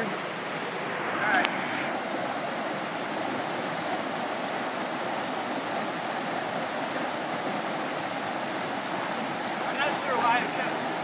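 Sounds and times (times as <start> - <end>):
creek water rushing through rapids: 0.0 - 11.0.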